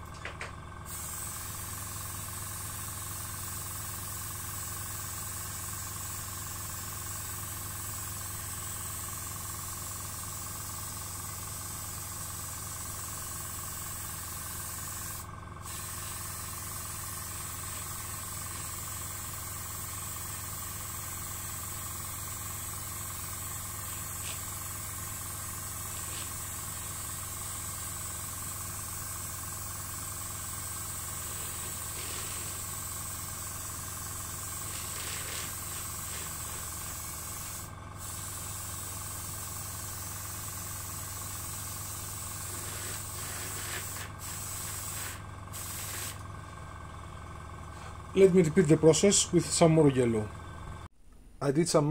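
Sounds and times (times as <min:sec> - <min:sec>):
airbrush hissing: 0:00.9 - 0:46.6.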